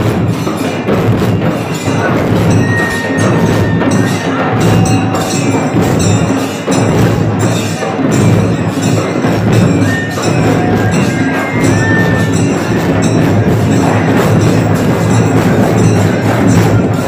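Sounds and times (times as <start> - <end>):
rhythmic percussion music: 0.0 - 17.0.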